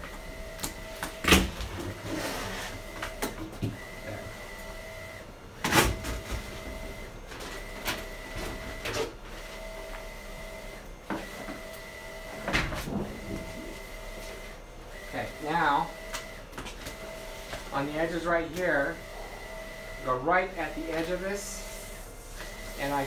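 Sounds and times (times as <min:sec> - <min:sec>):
printer running with steady tone: 0:00.0 - 0:23.0.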